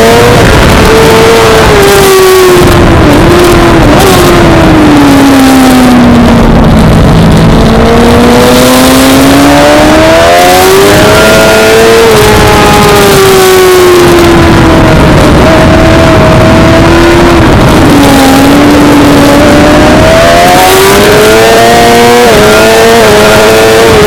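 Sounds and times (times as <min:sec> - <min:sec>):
motorcycle engine revving: 0:00.0 - 0:24.0
steady rushing noise: 0:00.0 - 0:24.0.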